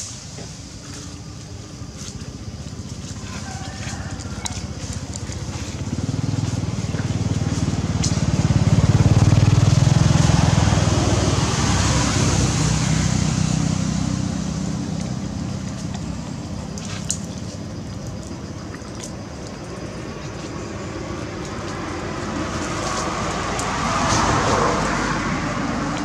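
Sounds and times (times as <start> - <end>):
passing vehicle engine hum: 0.0 - 26.0.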